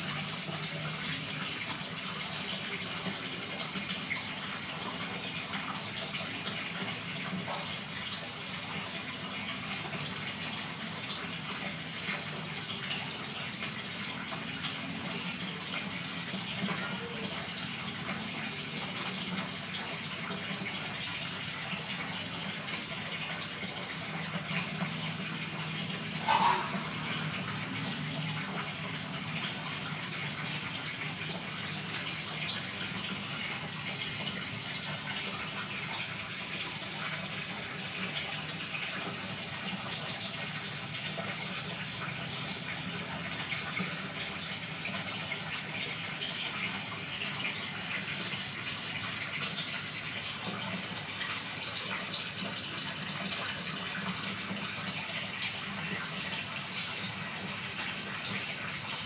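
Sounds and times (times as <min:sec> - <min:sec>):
water rushing in aquarium: 0:00.0 - 0:59.0.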